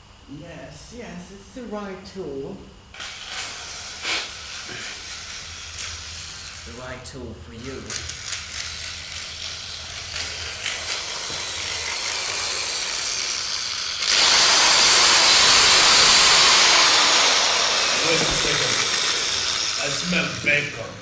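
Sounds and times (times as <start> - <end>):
loud harsh hiss: 2.9 - 7.0, 7.9 - 21.0.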